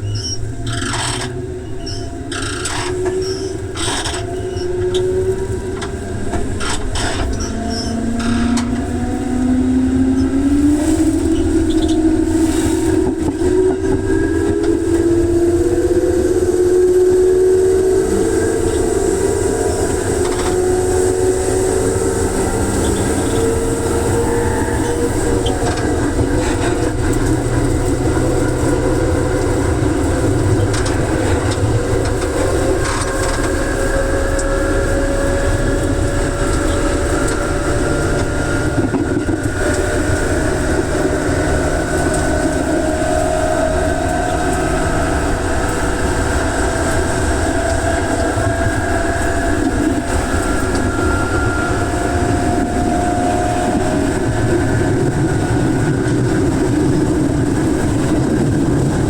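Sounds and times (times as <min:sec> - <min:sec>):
train traction motors whining: 0:00.0 - 0:59.0
wheels rumbling on rails: 0:00.0 - 0:59.0.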